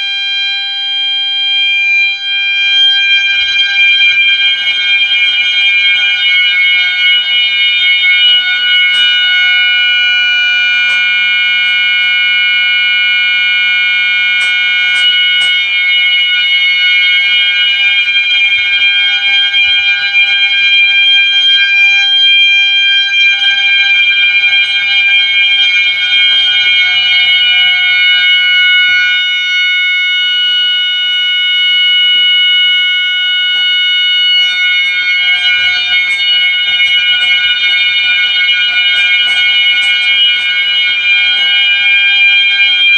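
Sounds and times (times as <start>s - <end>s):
loud electronic horn tone: 0.0s - 42.9s.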